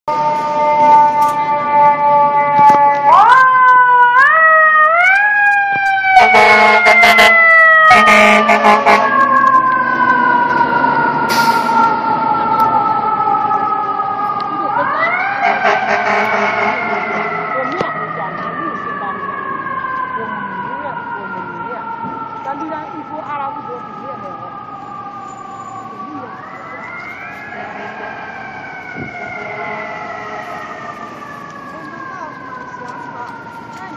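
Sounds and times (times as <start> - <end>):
fire engine siren: 0.0 - 33.9.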